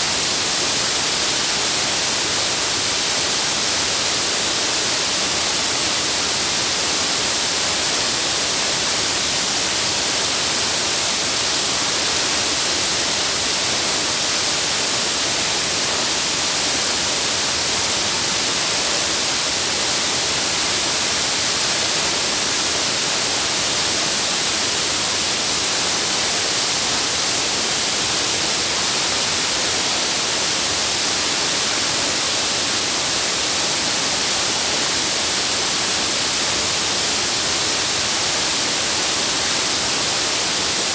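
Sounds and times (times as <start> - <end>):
waterfall hiss: 0.0 - 40.9.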